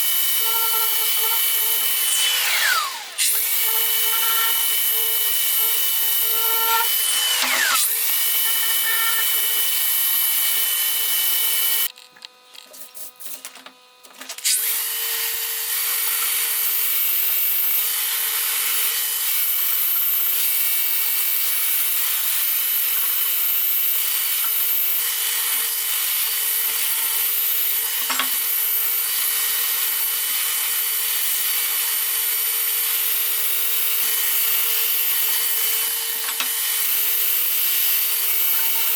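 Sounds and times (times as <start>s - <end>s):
electric power tool motor running: 0.0s - 12.0s, 12.9s - 38.9s.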